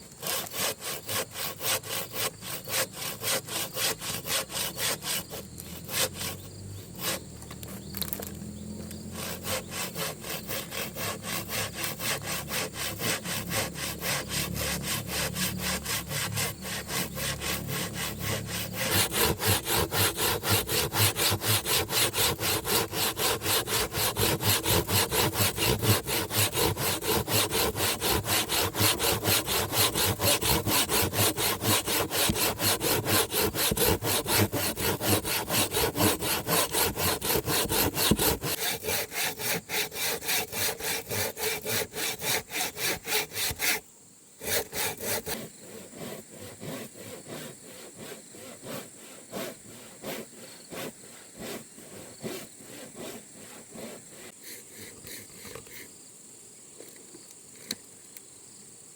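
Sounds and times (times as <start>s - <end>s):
hand saw cutting wood: 0.0s - 43.8s, 44.4s - 55.9s.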